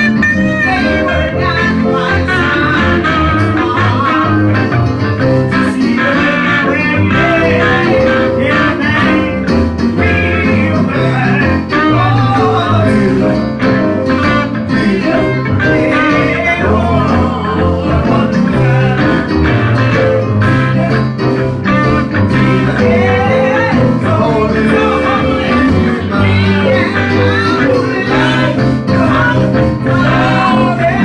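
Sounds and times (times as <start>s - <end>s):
bass: 0.0s - 31.0s
electric guitar: 0.0s - 31.0s
live gospel music: 0.0s - 31.0s
person singing: 0.0s - 31.0s.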